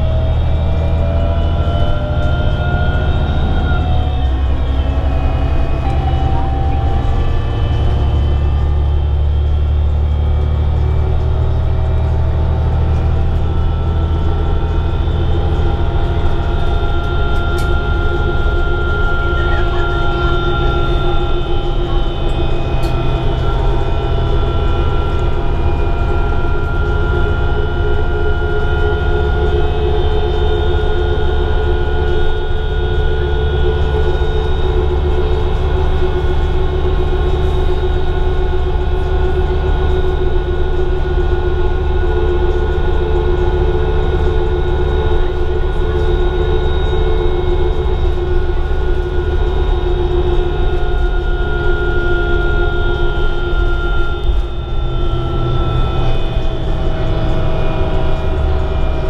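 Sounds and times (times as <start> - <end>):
bus engine drone: 0.0 - 59.0
driveline whine: 0.0 - 59.0.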